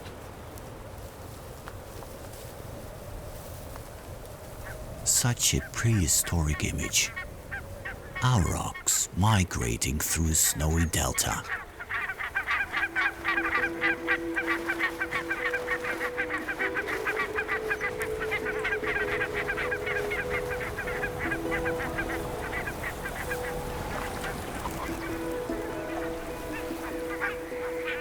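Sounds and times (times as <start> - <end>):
geese honking: 5.1 - 28.0.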